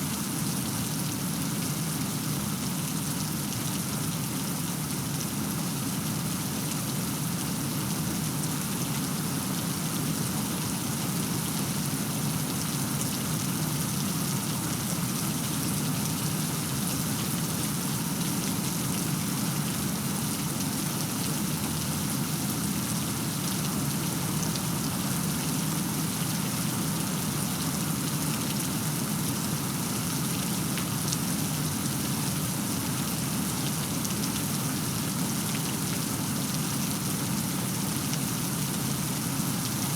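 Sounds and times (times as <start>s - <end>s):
steady rain falling: 1.5s - 39.9s.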